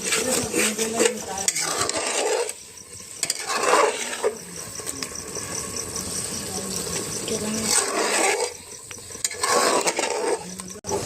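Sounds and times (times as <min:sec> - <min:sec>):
metal spoon scraping a pot: 0:00.0 - 0:06.3, 0:07.0 - 0:11.0
meat sizzling in a pot: 0:00.0 - 0:11.0.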